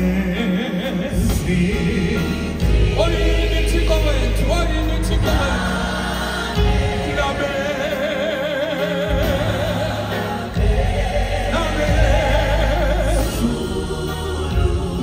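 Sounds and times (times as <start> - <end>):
bass: 0.0 - 15.0
choir singing: 0.0 - 15.0.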